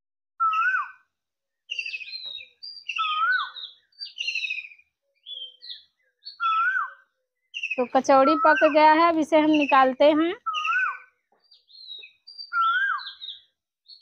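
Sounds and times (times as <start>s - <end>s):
high bird chirps: 0.4s - 1.0s, 1.6s - 14.0s.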